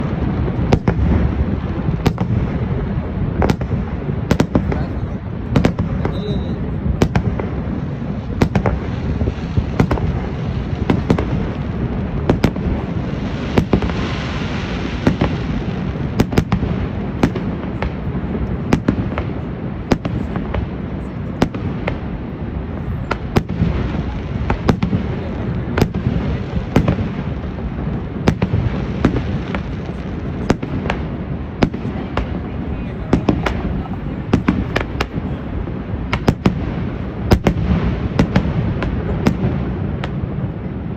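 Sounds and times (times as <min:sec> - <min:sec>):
crackling hiss of fireworks: 0:00.0 - 0:40.9
fireworks bangs and pops: 0:00.0 - 0:40.9.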